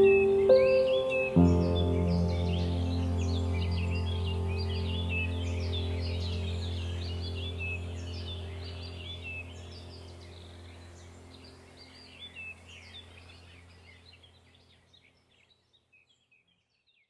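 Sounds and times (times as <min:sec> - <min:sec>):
low steady hum: 0:00.0 - 0:14.7
small birds chirping: 0:00.0 - 0:17.0.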